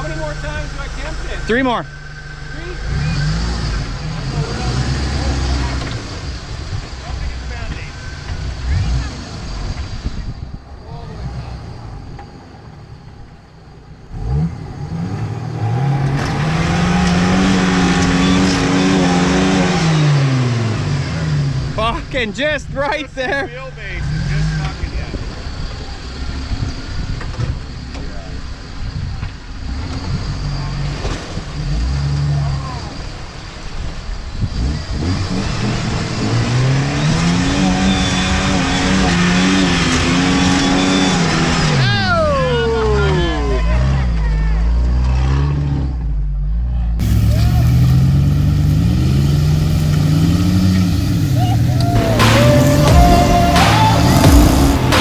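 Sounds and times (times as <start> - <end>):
truck engine revving hard: 0.0 - 12.2, 14.1 - 27.8, 28.8 - 33.5, 34.4 - 55.0.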